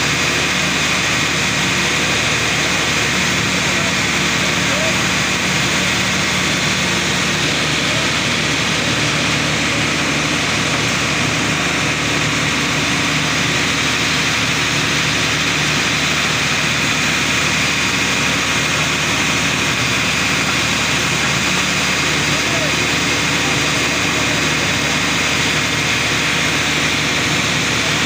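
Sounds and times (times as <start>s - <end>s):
drilling rig engine drone: 0.0s - 28.0s.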